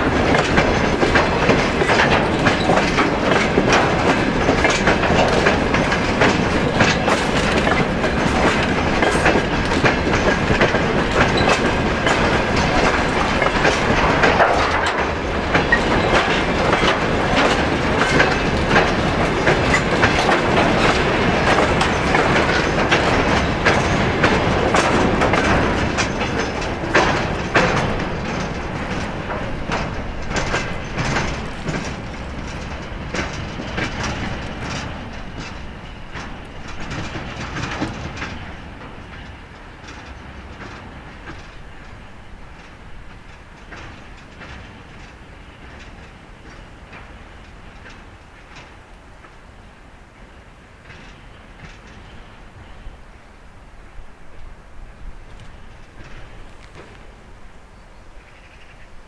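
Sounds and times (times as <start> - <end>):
freight train rolling past: 0.0 - 59.0
wheels clattering over rail joints: 0.0 - 59.0.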